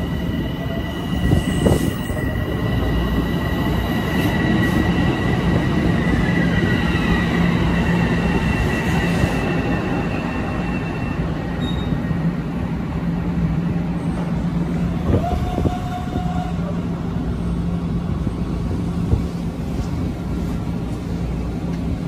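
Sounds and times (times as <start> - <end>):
train low hum: 0.0 - 22.0.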